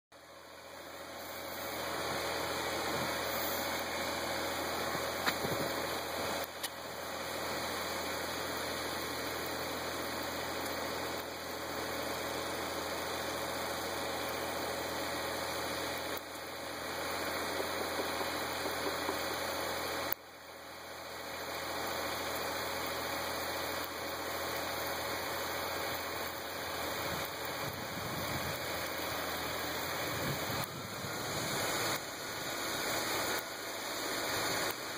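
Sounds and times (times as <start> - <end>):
tractor diesel engine idling: 0.2 - 34.9.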